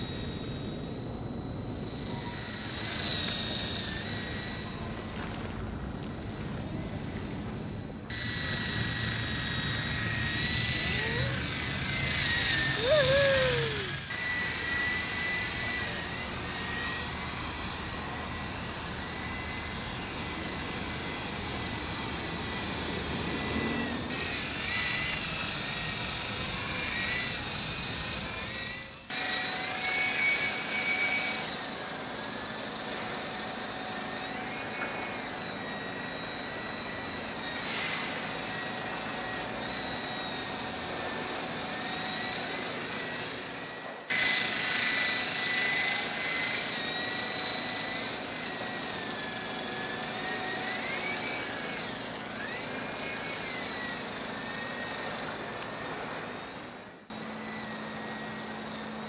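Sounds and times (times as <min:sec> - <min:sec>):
toy helicopter motor whine: 0:00.0 - 0:59.0.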